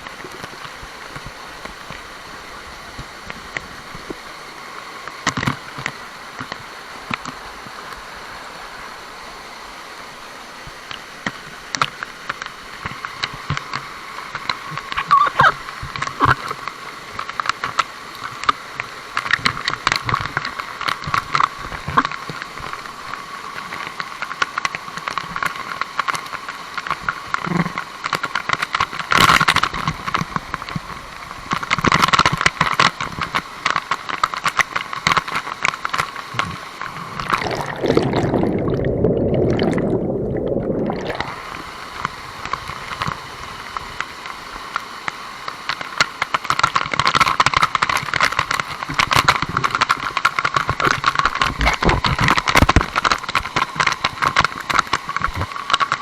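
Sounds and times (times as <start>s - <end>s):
waterfall rushing: 0.0s - 28.6s, 35.4s - 55.8s.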